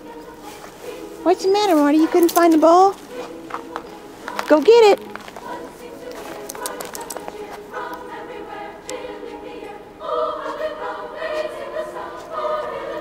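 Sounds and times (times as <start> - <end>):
choir singing long notes: 0.0 - 13.0.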